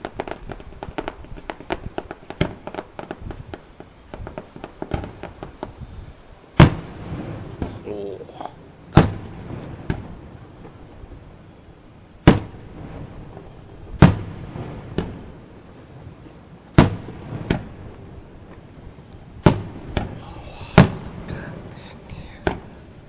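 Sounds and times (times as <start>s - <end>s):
fireworks bursting with booms: 0.0s - 23.0s.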